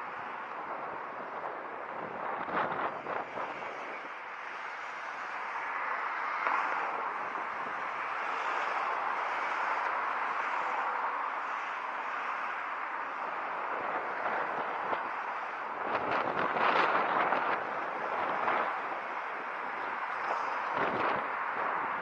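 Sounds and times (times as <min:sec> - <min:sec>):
rushing wind: 0:00.0 - 0:22.0
scooter road noise: 0:00.0 - 0:22.0.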